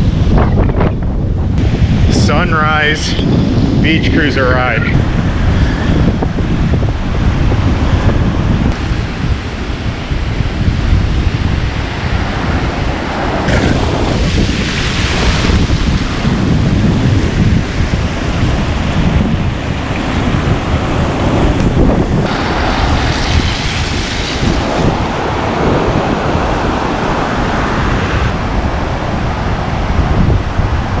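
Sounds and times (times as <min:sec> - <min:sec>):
ocean surf washing in: 0:00.0 - 0:31.0
wind buffeting microphone: 0:00.0 - 0:31.0.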